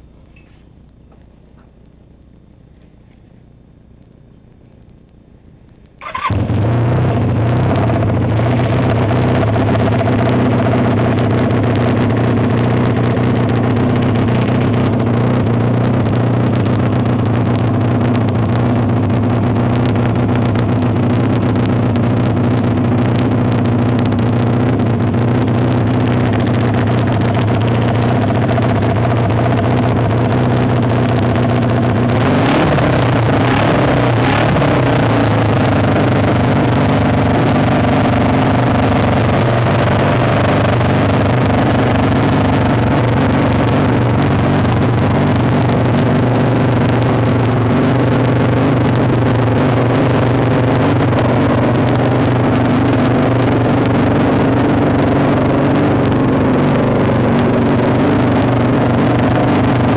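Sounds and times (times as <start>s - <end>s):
motorcycle engine starting and idling: 5.9s - 59.9s.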